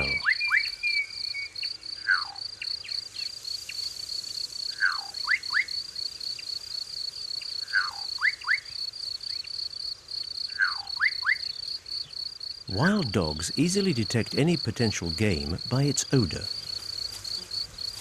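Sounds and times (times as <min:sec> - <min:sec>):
pulsed insect trill: 0:00.0 - 0:18.0.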